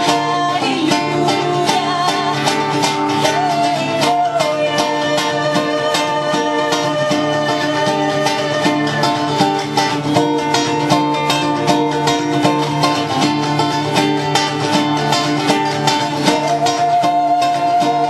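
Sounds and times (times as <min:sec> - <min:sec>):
acoustic guitar plucking: 0:00.0 - 0:18.0.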